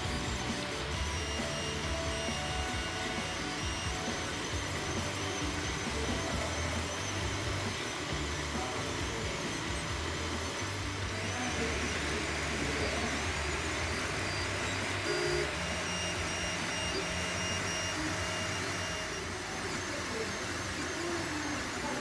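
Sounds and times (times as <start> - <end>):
stepper motors whining: 0.0 - 22.0.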